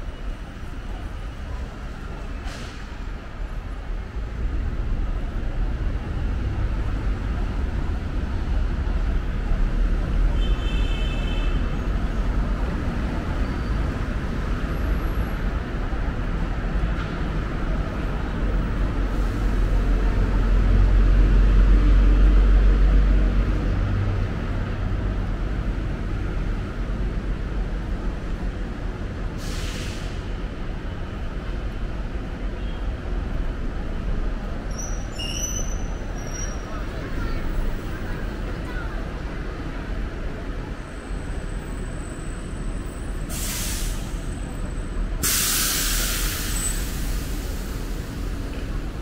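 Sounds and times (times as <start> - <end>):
street traffic rumble: 0.0 - 49.0.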